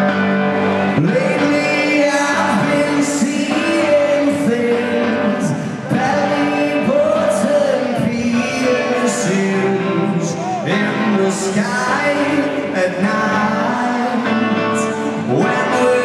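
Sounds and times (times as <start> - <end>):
live rock band playing: 0.0 - 16.0
person singing: 0.0 - 16.0.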